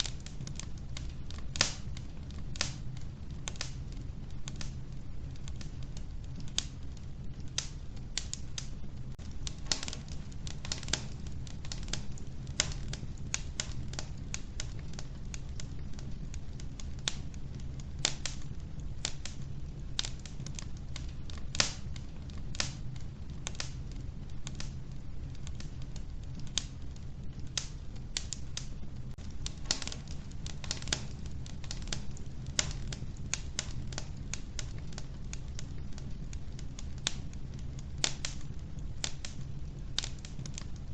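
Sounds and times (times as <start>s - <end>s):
wood fire crackling in stove: 0.0s - 40.9s.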